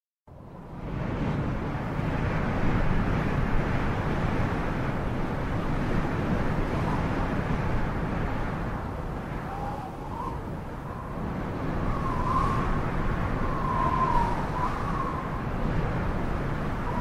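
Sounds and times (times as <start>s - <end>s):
wind blowing across microphone: 0.3s - 17.0s.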